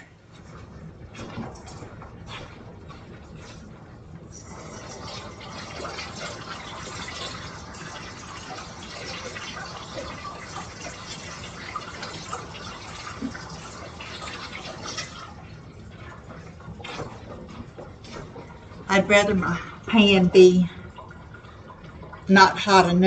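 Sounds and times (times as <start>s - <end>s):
hands washing under water: 0.0s - 23.0s
faucet running: 2.8s - 23.0s.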